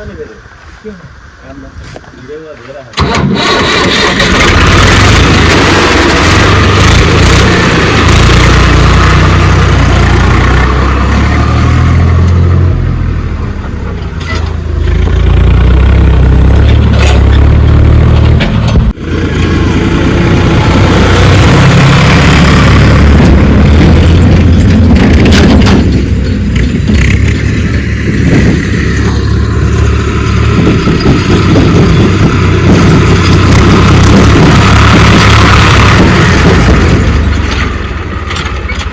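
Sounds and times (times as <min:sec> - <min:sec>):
backhoe diesel engine working: 0:03.0 - 0:38.9.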